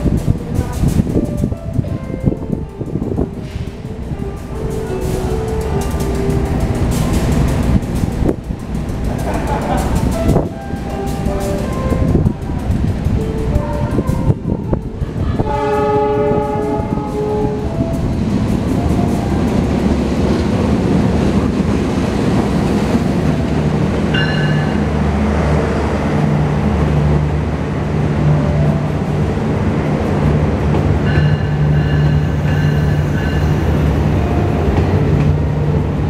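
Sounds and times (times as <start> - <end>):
diesel locomotive passing: 0.0 - 36.0
train wheels rumbling on rail: 0.0 - 36.0.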